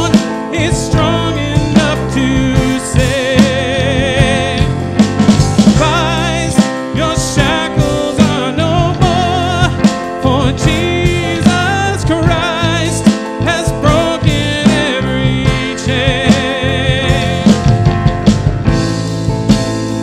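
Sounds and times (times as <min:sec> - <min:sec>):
person singing: 0:00.0 - 0:18.2
live band playing: 0:00.0 - 0:20.0.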